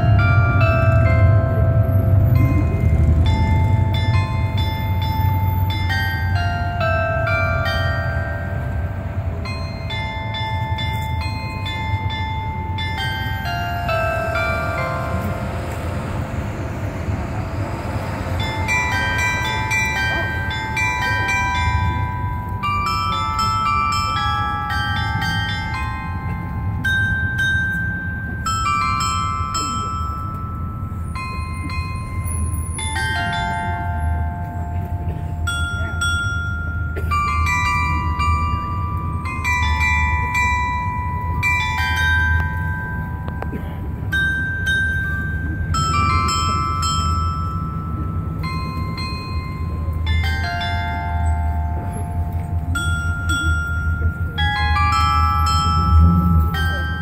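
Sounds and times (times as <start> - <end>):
glockenspiel bells playing melody: 0.0 - 57.0.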